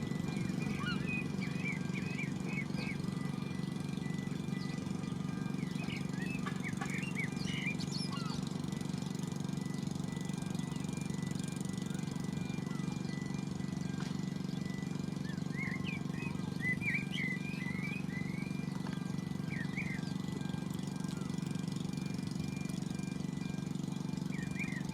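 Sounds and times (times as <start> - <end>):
small bird chirping: 0.0 - 23.6, 24.2 - 24.9.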